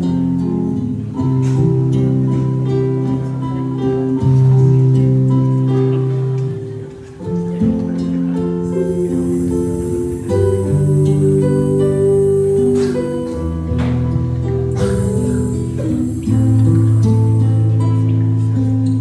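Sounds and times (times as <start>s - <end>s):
acoustic guitar slow chords: 0.0s - 19.0s.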